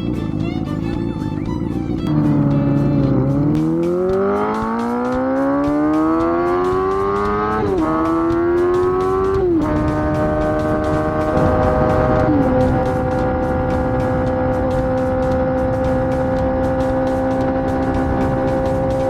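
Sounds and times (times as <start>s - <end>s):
minibike engine revving: 0.0s - 19.0s.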